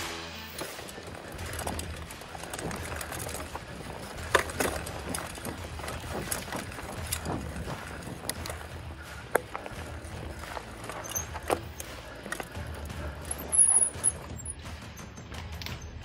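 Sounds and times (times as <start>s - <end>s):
bike tyres rumbling on dirt: 0.0s - 16.0s.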